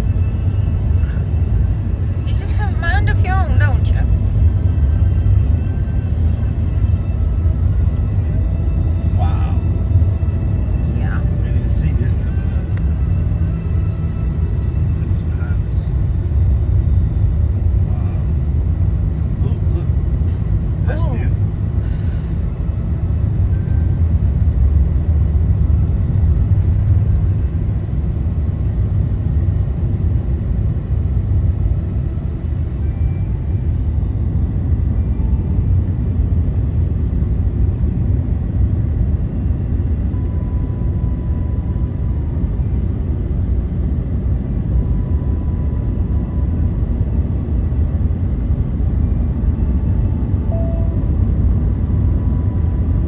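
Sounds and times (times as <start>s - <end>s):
vehicle rumble inside cab: 0.0s - 53.0s.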